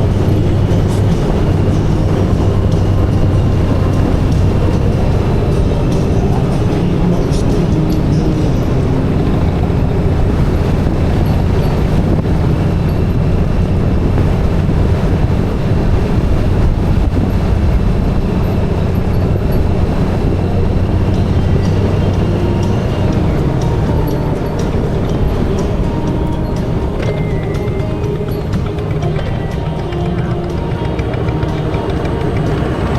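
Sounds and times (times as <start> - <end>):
motorcycle engine drone: 0.0 - 32.9
wind and road noise: 0.0 - 32.9.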